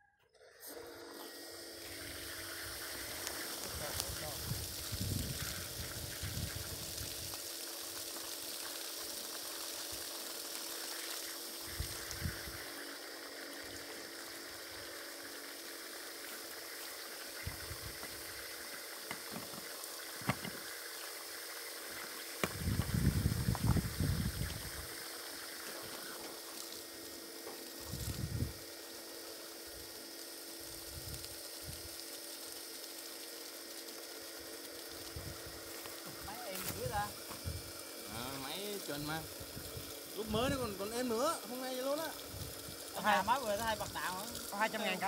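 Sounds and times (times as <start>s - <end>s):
water pump humming: 0.3s - 45.0s.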